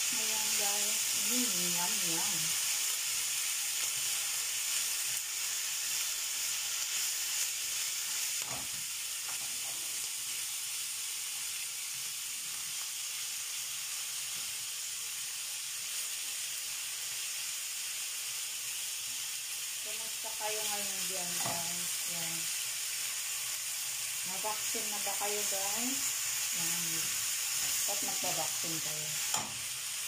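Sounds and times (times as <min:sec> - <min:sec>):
meat and onions sizzling: 0:00.0 - 0:30.0.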